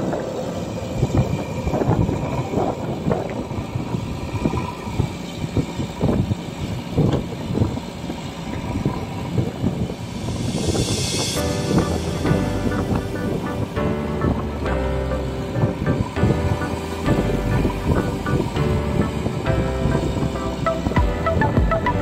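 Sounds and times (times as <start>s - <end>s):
diesel engine under load: 0.0s - 22.0s.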